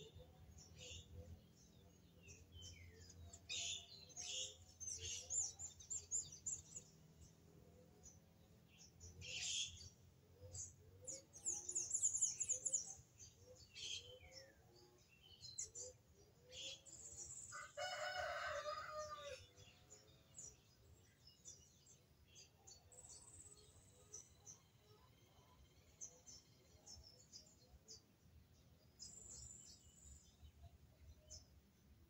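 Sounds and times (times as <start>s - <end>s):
birds chirping and twittering: 0.0s - 32.0s.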